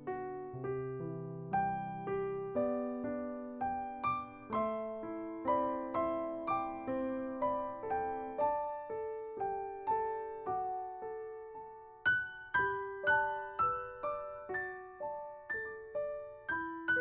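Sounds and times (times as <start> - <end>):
calm piano arpeggios: 0.0 - 17.0.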